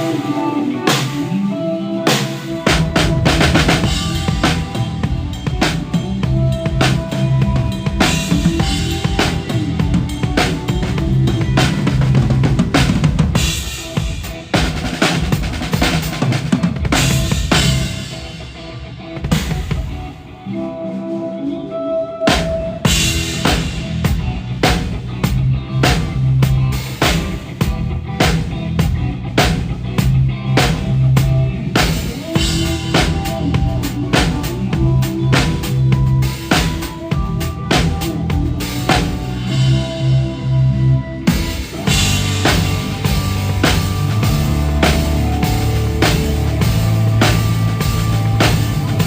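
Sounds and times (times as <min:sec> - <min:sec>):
live rock band playing: 0:00.0 - 0:49.0
bass drum and snare: 0:02.7 - 0:18.2, 0:22.3 - 0:39.9, 0:41.3 - 0:49.0.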